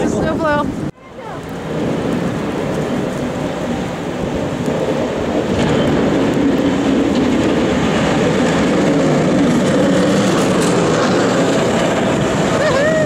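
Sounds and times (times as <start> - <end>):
snowplow truck rumbling by: 1.5 - 13.0.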